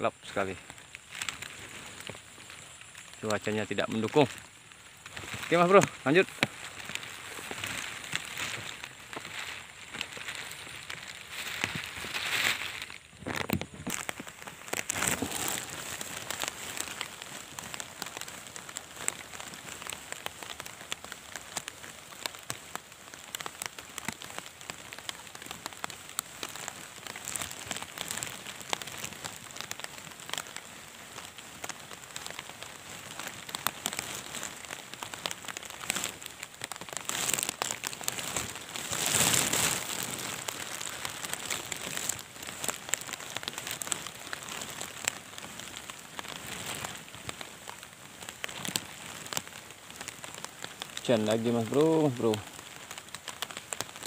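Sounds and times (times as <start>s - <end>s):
rain pattering: 0.0s - 54.0s
drops falling on water: 0.6s - 54.0s.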